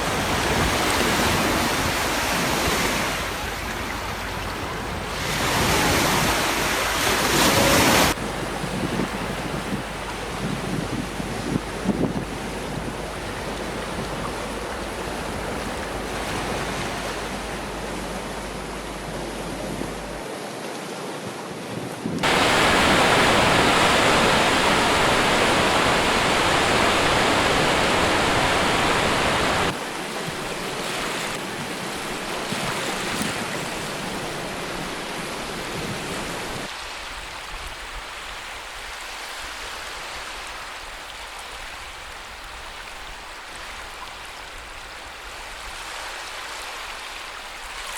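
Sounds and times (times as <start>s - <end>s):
surf washing on shore: 0.0s - 47.9s.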